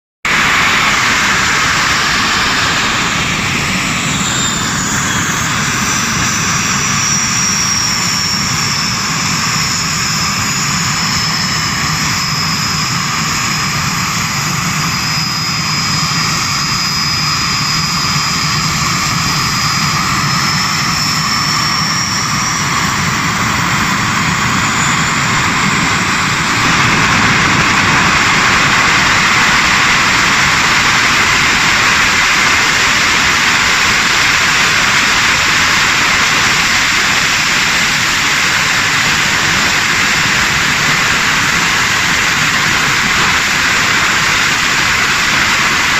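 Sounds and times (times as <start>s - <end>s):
engine running with high whine: 0.3s - 45.9s.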